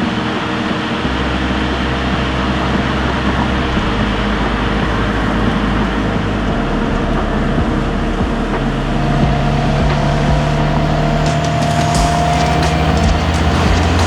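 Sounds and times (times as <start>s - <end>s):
car engine running: 0.0s - 14.0s
road and tyre noise: 0.0s - 14.0s.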